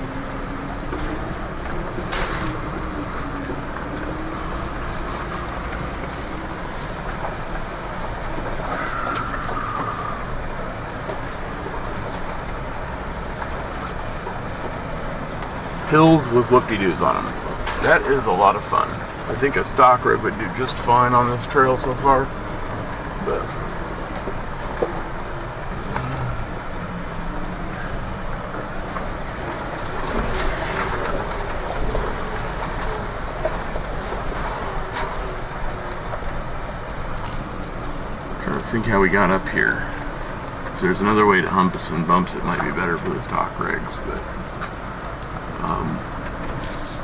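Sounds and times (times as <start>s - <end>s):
engine and drivetrain rumble: 0.0s - 47.0s.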